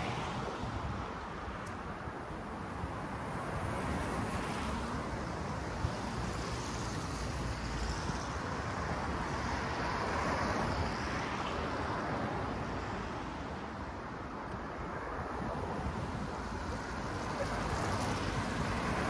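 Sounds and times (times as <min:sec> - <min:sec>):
street traffic rush: 0:00.0 - 0:19.0.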